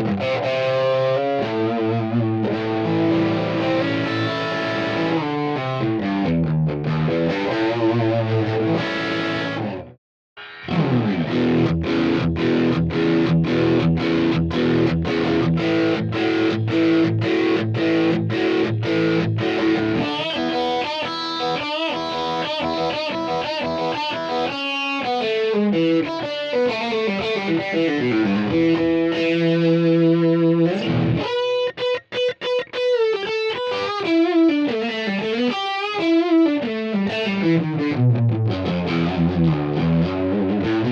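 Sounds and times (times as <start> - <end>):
distorted electric guitar lead: 0.0 - 40.9.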